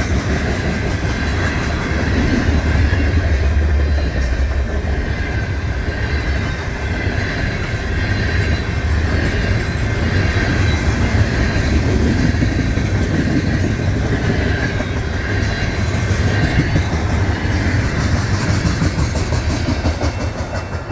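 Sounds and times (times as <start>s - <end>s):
train wheels clacking over rail joints: 0.0s - 20.9s.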